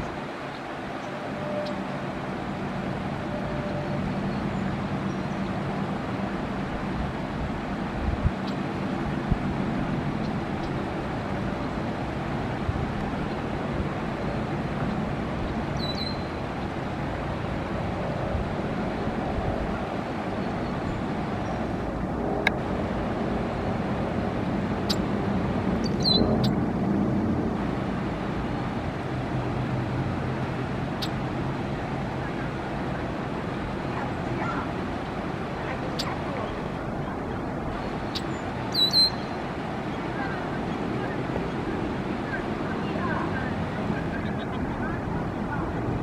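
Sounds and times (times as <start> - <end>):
distant road traffic rumble: 0.0 - 46.0.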